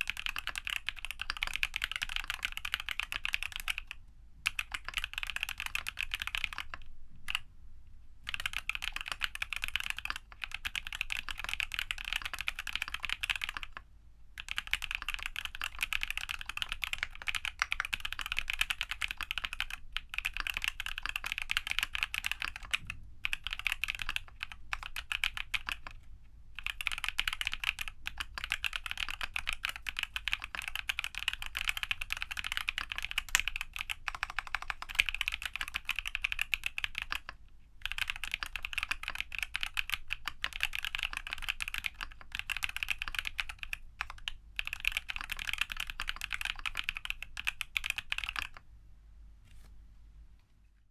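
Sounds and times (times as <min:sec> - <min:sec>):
mechanical keyboard typing: 0:00.0 - 0:07.5, 0:08.3 - 0:26.0, 0:26.6 - 0:48.6.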